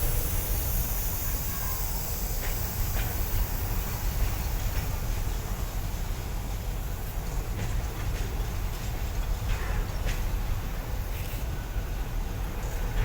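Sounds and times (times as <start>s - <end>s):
freight train rumbling: 0.0s - 13.0s
hiss: 0.0s - 13.0s.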